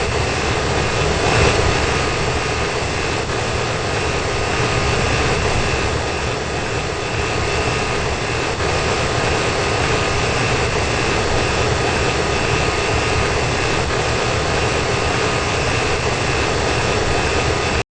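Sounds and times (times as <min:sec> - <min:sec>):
blower air rush: 0:00.0 - 0:17.8
thin high whine: 0:00.0 - 0:17.8.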